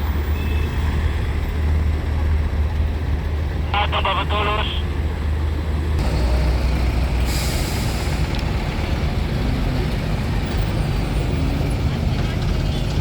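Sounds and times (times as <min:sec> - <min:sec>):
truck engines rumbling: 0:00.0 - 0:13.0.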